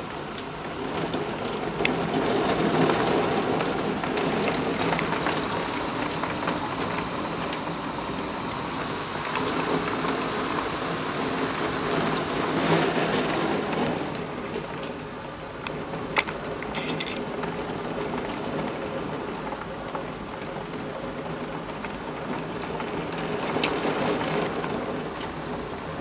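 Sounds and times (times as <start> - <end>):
heavy rain pouring: 0.0 - 26.0
hailstones striking: 0.2 - 26.0.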